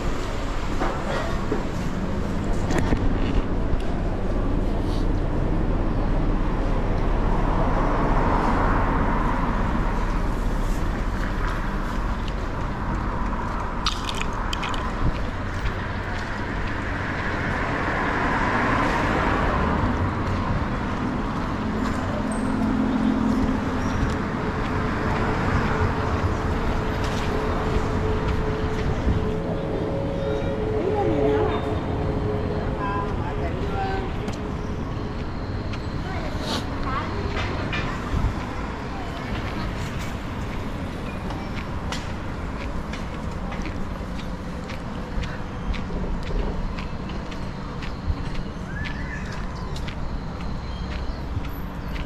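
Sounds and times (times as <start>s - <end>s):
low vehicle rumble: 0.0s - 52.0s.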